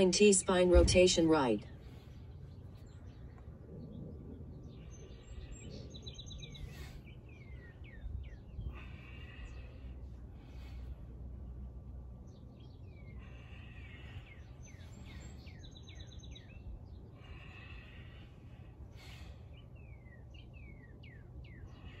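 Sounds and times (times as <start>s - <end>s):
birds chirping: 0.0s - 22.0s
low background rumble: 0.0s - 22.0s.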